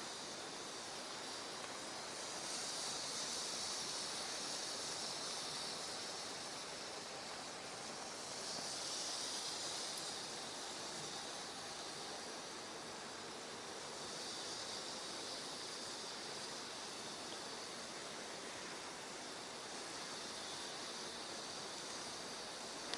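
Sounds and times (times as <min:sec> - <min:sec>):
fireplace flames hissing: 0:00.0 - 0:22.9.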